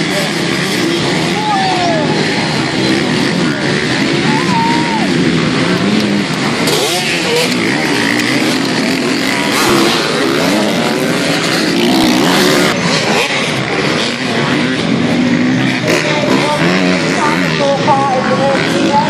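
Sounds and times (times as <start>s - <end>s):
motocross bikes racing past: 0.0s - 19.0s.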